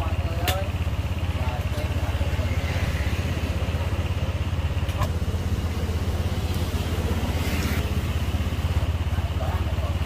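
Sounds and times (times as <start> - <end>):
motorbike engine idling: 0.0 - 10.0.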